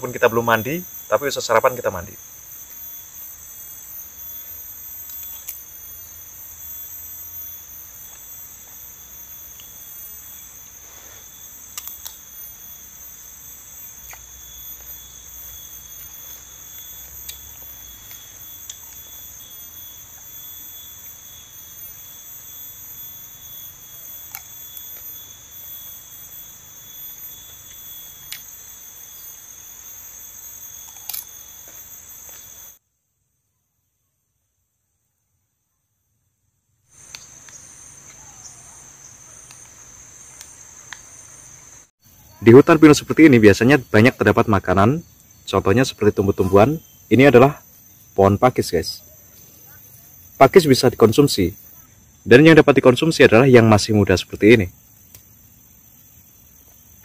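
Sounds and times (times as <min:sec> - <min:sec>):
insect chorus trilling: 0:00.0 - 0:32.8, 0:36.8 - 0:57.0.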